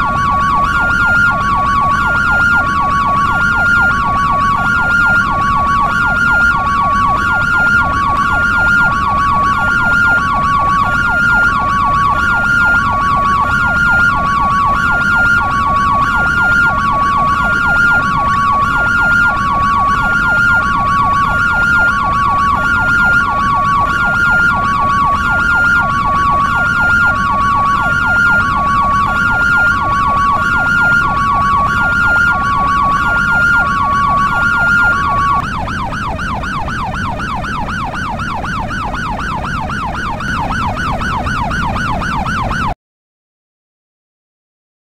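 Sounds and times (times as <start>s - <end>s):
ambulance hi-lo siren: 0.0s - 42.8s
faint rising and falling wail: 0.0s - 42.8s.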